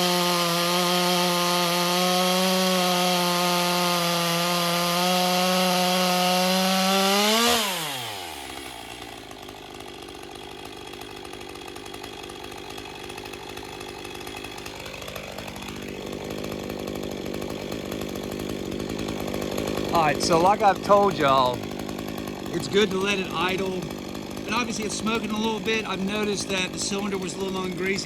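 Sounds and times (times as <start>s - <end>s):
chainsaw revving and idling: 0.0s - 28.0s.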